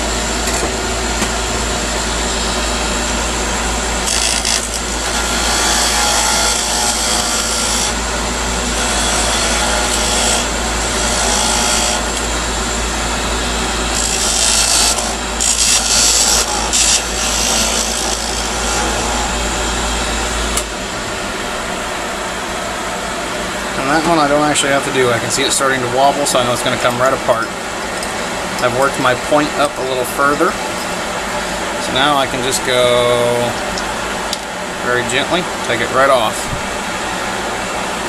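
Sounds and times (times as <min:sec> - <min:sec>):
lathe motor hum: 0:00.0 - 0:38.0
lathe tool cutting wood: 0:00.0 - 0:38.0.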